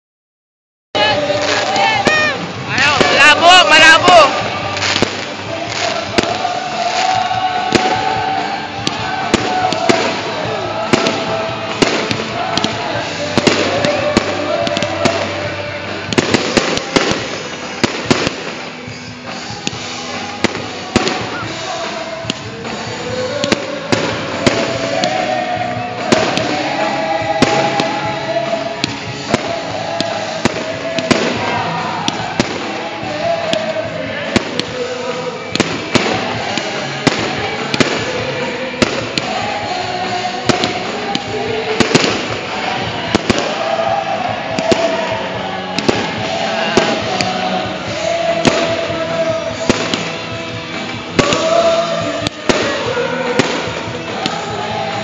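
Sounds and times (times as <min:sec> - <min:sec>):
background music: 0:01.0 - 0:55.0
fireworks bangs: 0:01.0 - 0:55.0.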